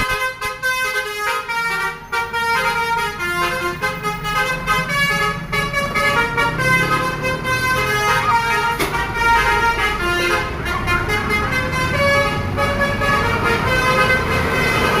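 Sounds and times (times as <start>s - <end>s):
bus engines rumbling: 0.0s - 15.0s
bus horns playing a tune: 0.0s - 15.0s.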